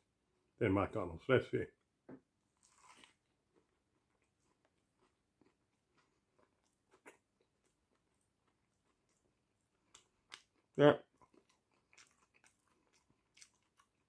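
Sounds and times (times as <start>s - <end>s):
soft chewing clicks: 2.7s - 14.0s.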